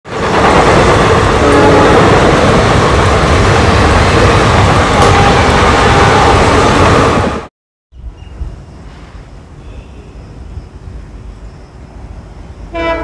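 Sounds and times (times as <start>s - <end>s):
train wheels rumbling and rattling: 0.1s - 7.5s, 8.1s - 13.0s.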